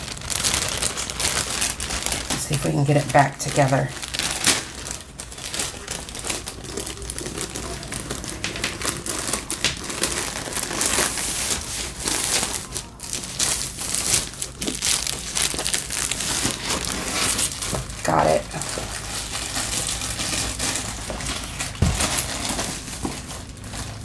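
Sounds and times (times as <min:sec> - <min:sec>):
plastic sleeve crinkling: 0:00.0 - 0:24.0.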